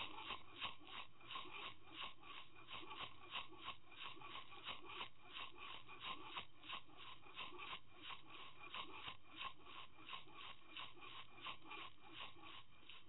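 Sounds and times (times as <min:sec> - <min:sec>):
rhythmic rasping rub: 0:00.0 - 0:13.0.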